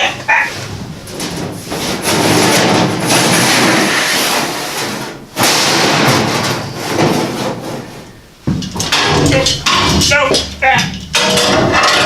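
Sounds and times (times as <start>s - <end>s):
steel panel scraping and rattling: 0.0s - 12.0s.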